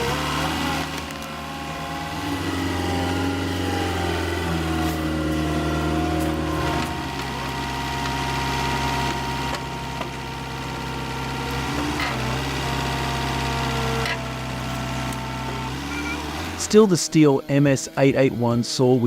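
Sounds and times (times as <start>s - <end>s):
engine running steadily: 0.0s - 18.4s.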